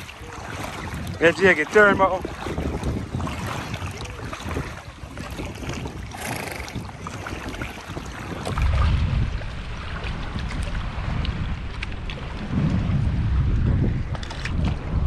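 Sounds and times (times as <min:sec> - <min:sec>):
seawater sloshing and splashing: 0:00.0 - 0:15.0
wind buffeting microphone: 0:00.0 - 0:15.0.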